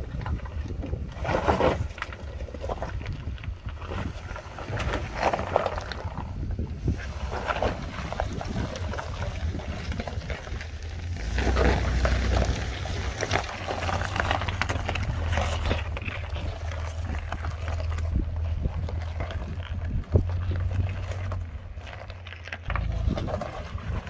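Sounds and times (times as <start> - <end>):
tyres crunching over rocks: 0.0 - 24.0
engine running at low revs: 2.5 - 24.0.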